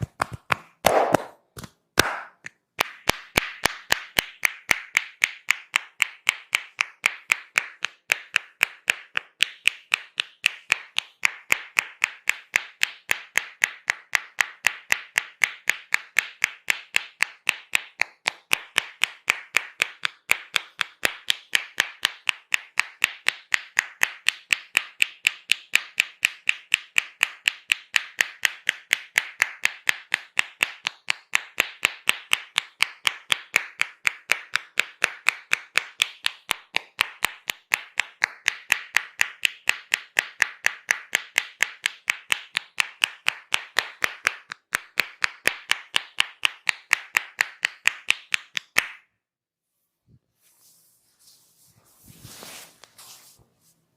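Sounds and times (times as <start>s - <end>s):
hands clapping fast: 0.0s - 49.1s.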